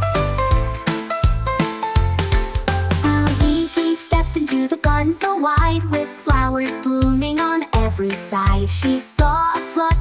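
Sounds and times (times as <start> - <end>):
bouncy children's instrumental music: 0.0 - 10.0.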